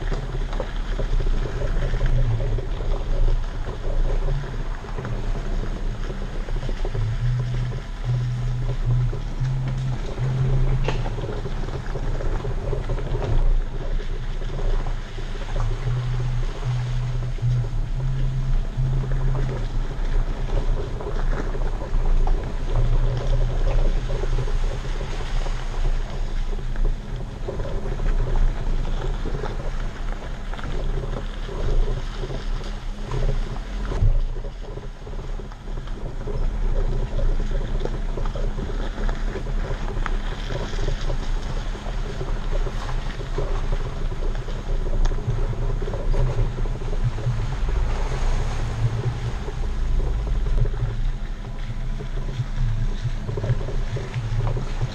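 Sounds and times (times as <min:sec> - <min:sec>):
engine and drivetrain drone: 0:00.0 - 0:54.9
tyres rolling over dirt and stones: 0:00.0 - 0:54.9.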